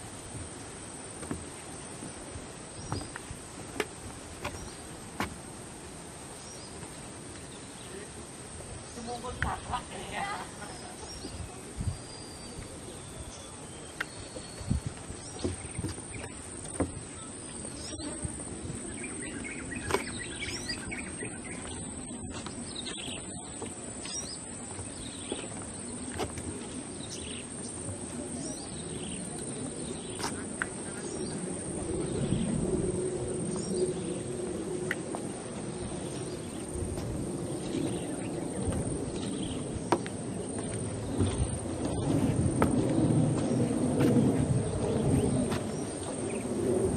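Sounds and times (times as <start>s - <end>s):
low rumbling noise: 0.0s - 46.9s
wild birds chirping: 1.3s - 5.1s, 5.8s - 46.9s.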